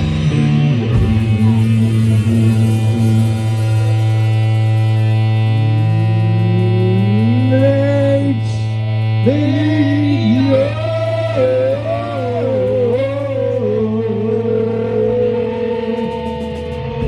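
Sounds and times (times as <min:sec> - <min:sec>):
low drone: 0:00.0 - 0:17.0.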